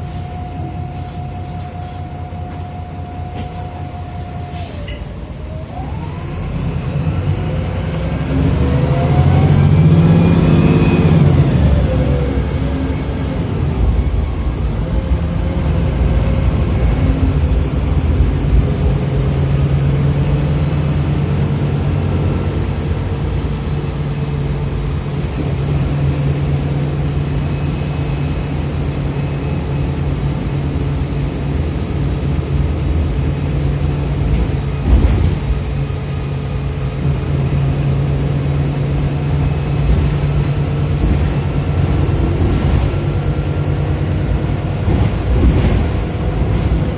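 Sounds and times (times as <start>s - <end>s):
bus engine drone: 0.0s - 46.9s.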